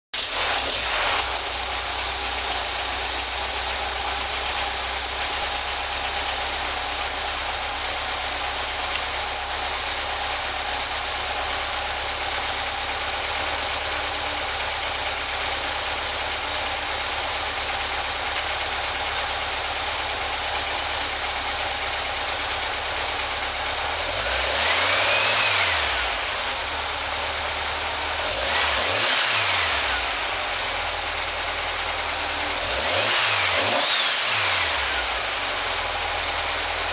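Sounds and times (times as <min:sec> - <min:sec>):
car engine idling and revving: 0:00.2 - 0:36.9.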